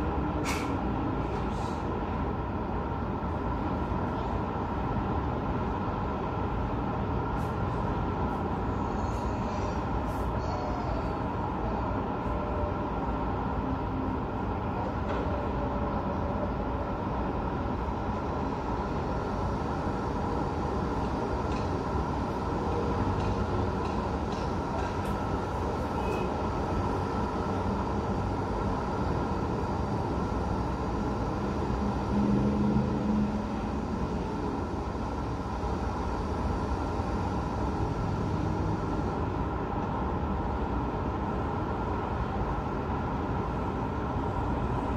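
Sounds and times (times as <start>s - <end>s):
distant road traffic hum: 0.0s - 44.9s
low engine tone: 0.0s - 44.9s.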